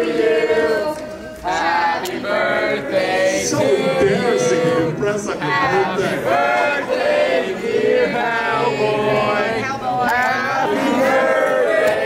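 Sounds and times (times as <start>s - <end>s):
voices singing together: 0.0s - 12.0s.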